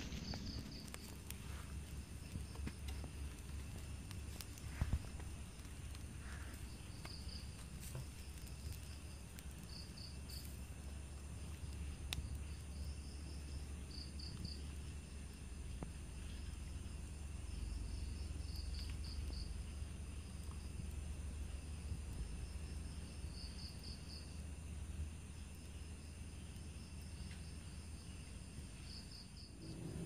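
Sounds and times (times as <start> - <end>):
crickets chirping: 0.0 - 30.0
high insect drone: 0.0 - 30.0.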